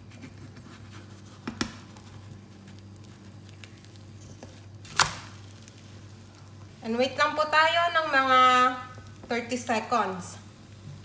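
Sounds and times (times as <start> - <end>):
omelette sizzling in pan: 0.0 - 11.0.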